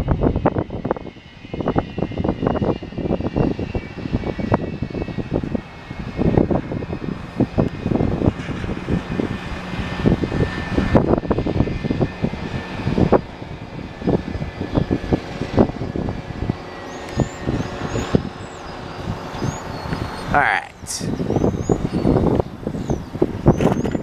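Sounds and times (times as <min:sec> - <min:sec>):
idling jet engine whine: 0:00.0 - 0:24.0
wind buffeting microphone: 0:00.0 - 0:24.0.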